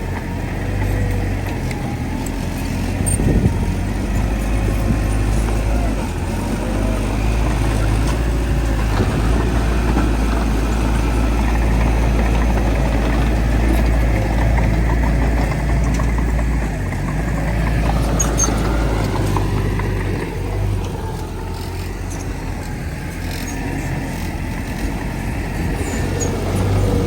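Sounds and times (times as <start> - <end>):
heavy machinery diesel engine: 0.0 - 27.0.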